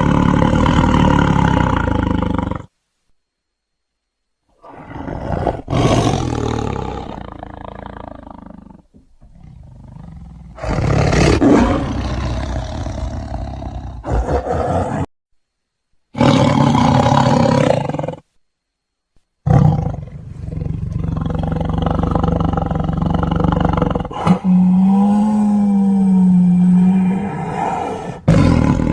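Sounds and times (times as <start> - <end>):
big cat growling and roaring: 0.0 - 2.7, 4.6 - 15.1, 16.2 - 18.2, 19.5 - 28.9.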